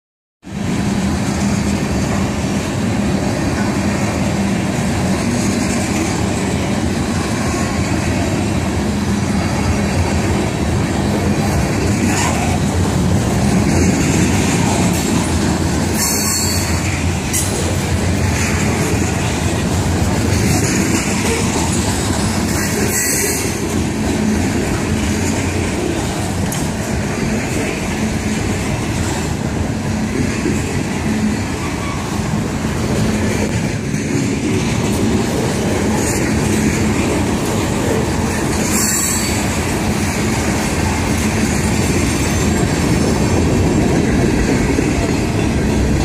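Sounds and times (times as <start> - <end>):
steel train wheels on rails: 0.4 - 46.0.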